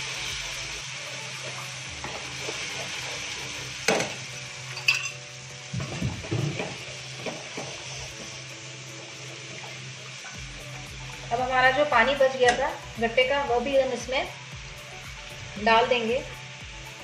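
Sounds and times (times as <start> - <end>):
steady sizzle: 0.0 - 17.0.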